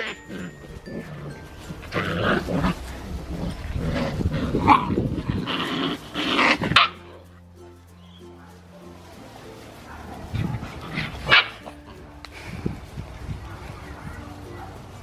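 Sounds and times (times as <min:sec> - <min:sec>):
puppies growling: 0:00.0 - 0:15.0.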